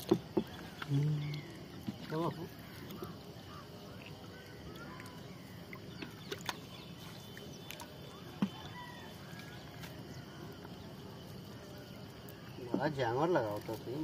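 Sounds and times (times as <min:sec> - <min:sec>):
faint bird calls: 0:00.0 - 0:12.9
quiet river ambience: 0:00.0 - 0:14.0.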